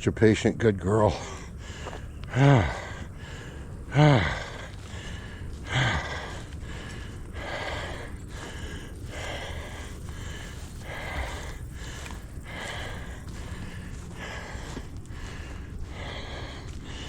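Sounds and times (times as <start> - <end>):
person breathing hard: 1.1 - 17.0.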